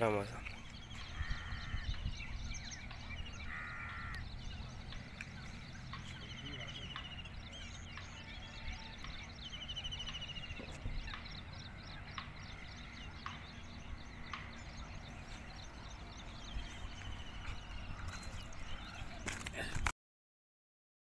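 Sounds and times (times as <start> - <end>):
small birds chirping and trilling: 0.0 - 19.9.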